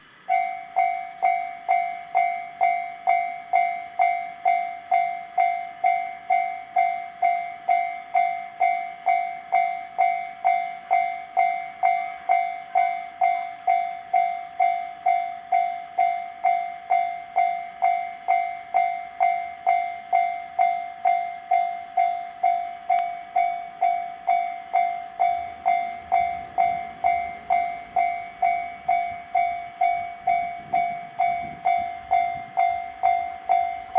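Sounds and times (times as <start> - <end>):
level crossing bell ringing: 0.3 - 33.9.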